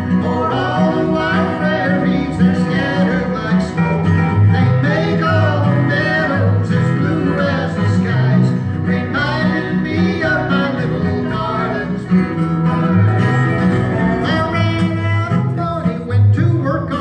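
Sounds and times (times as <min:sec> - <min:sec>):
bass line: 0:00.0 - 0:17.0
slide resonator guitar: 0:00.0 - 0:17.0
strummed acoustic guitar: 0:00.0 - 0:17.0.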